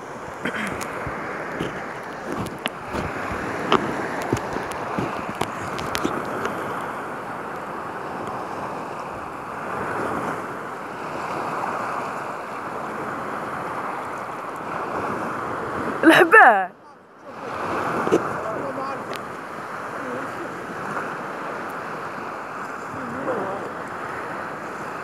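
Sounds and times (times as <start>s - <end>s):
sea water lapping and sloshing: 0.0s - 16.4s, 17.0s - 25.0s
wind buffeting microphone: 0.0s - 16.4s, 17.4s - 25.0s.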